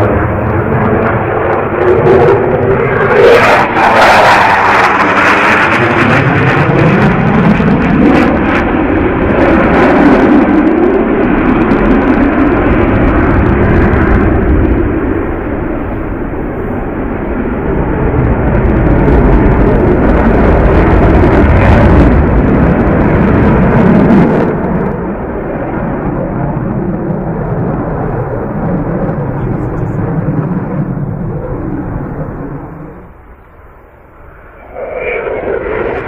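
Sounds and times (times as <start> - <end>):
jet aircraft flying past: 0.0 - 36.0.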